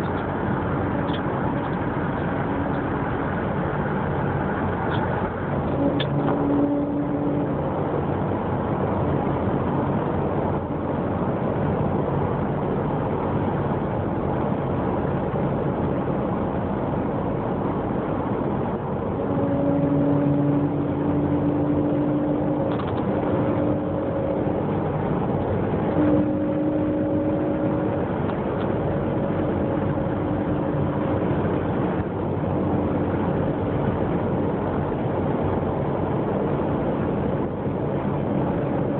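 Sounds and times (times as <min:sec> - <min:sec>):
steady droning tone: 0:00.0 - 0:38.9
vehicle engine running: 0:00.0 - 0:38.9.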